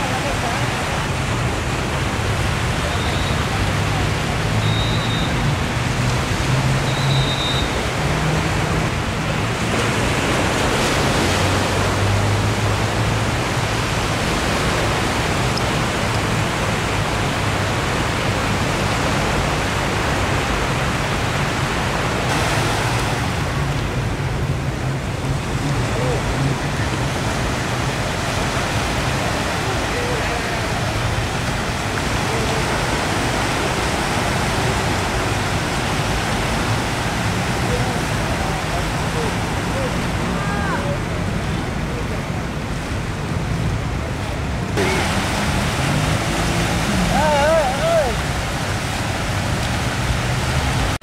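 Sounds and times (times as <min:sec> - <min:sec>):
surf on sandy beach: 0:00.0 - 0:51.0.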